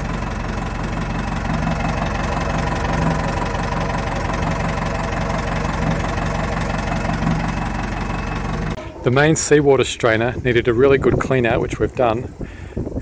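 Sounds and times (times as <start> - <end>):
diesel engine idling: 0.0 - 10.5.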